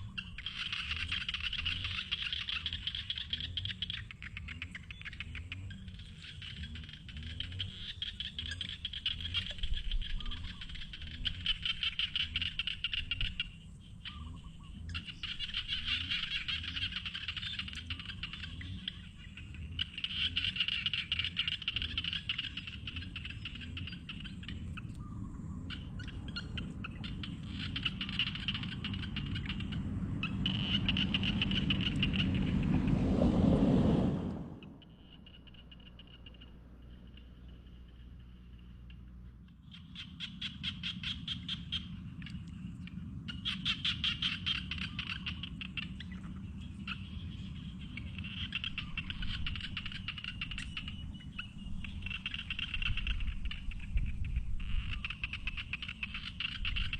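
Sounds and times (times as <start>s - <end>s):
frogs and insects calling: 0.0s - 33.5s, 34.5s - 56.9s.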